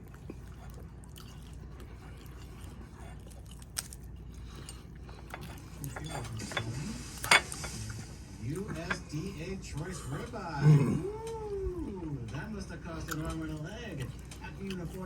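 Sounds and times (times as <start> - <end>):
person chewing crispy food: 0.0 - 15.0.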